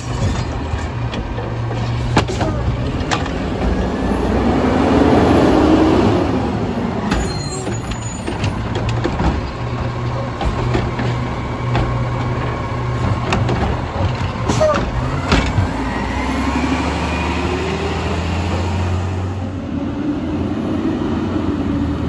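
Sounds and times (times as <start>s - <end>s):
garbage truck engine hum: 0.0s - 22.0s.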